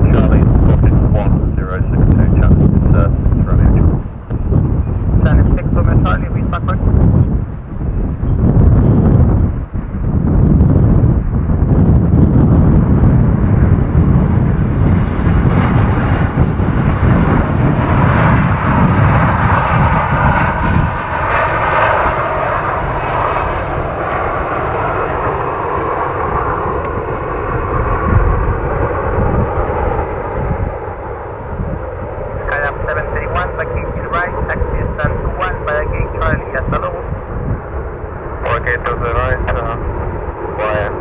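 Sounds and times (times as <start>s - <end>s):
jet airliner engines landing: 0.0s - 41.0s.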